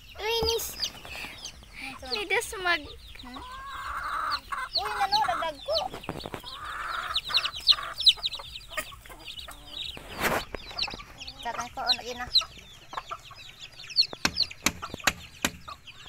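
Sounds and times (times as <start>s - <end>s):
chicks peeping: 0.0s - 16.0s
clucking calls: 0.0s - 16.0s.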